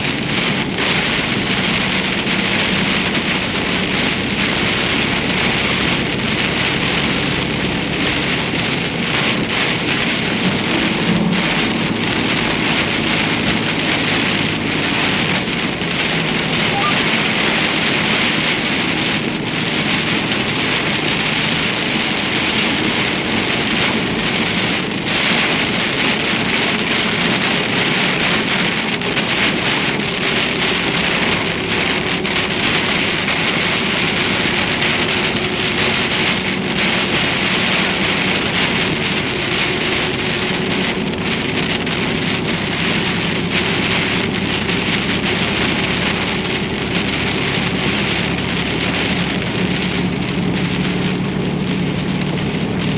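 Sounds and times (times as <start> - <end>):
engine and road hum: 0.0 - 52.9
heavy rain on vehicle windshield: 0.0 - 52.9.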